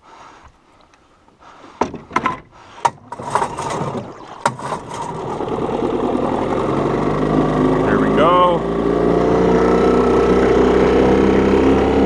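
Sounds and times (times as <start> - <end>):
outboard motor running: 1.5 - 12.0.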